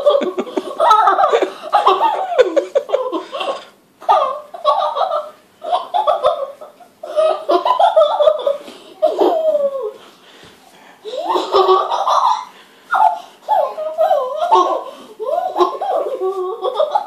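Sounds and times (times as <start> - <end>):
child laughing and giggling: 0.0 - 10.1, 11.0 - 17.0.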